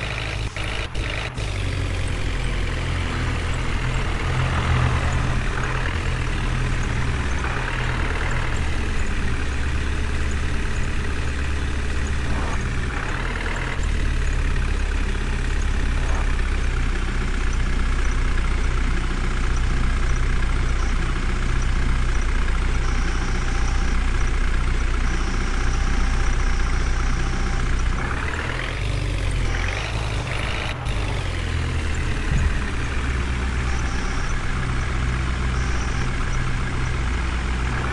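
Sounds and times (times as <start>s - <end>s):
heavy vehicle engine running: 0.0s - 37.9s.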